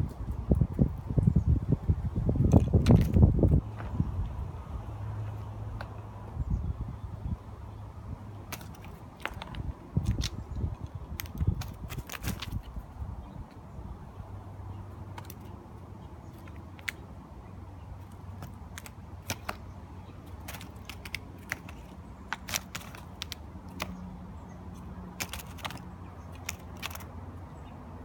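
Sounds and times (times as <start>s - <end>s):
birds tapping peanut shells: 2.3s - 6.4s, 8.3s - 27.8s.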